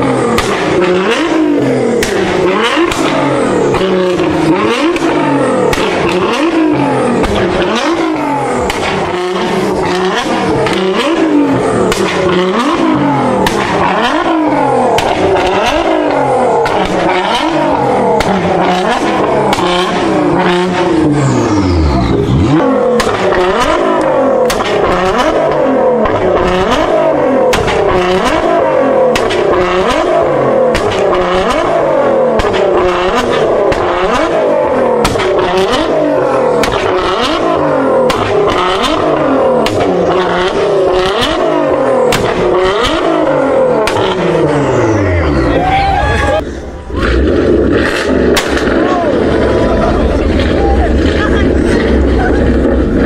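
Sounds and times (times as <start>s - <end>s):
car engine revving: 0.0s - 53.0s
exhaust pops and bangs: 0.2s - 21.1s, 22.2s - 44.5s, 47.0s - 53.0s.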